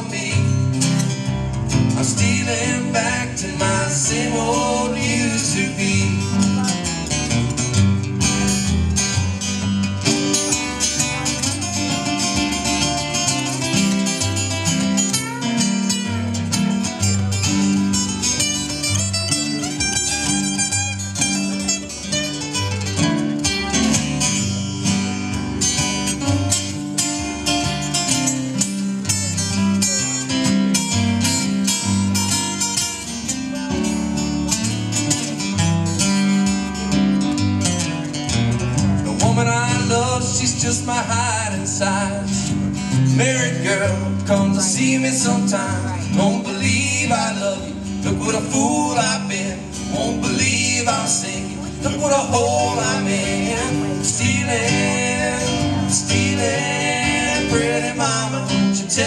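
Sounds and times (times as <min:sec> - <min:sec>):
acoustic guitars strumming: 0:00.0 - 0:59.0
keyboard: 0:00.0 - 0:59.0.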